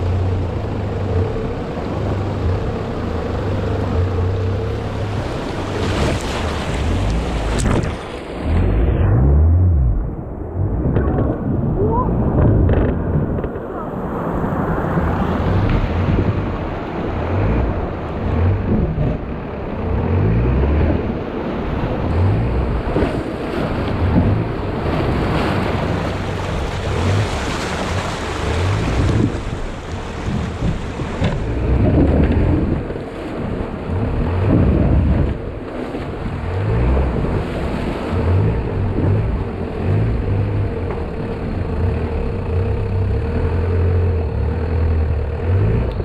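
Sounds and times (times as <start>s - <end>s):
engine revving: 0.0s - 11.4s, 15.2s - 29.5s, 33.9s - 35.4s, 36.3s - 46.0s
wind buffeting microphone: 0.0s - 43.4s
water rushing and splashing: 0.0s - 46.0s.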